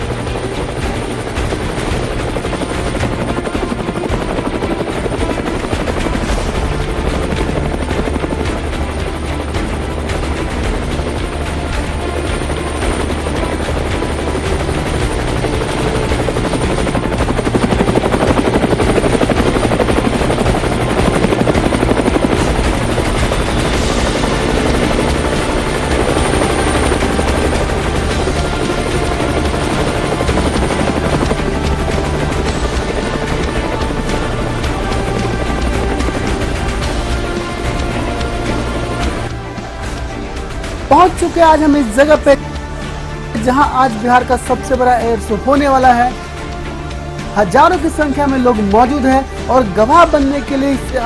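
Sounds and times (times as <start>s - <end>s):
helicopter rotor chop: 0.0s - 51.0s.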